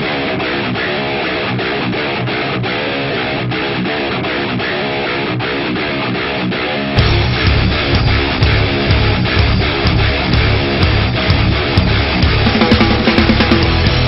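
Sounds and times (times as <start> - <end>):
guitar strumming: 0.0 - 14.0.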